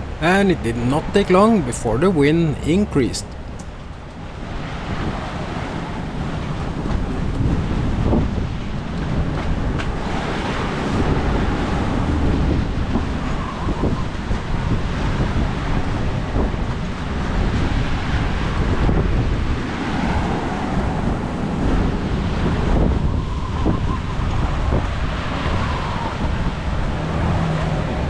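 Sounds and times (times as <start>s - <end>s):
sea waves breaking: 0.0s - 28.0s
wind buffeting microphone: 3.2s - 28.0s.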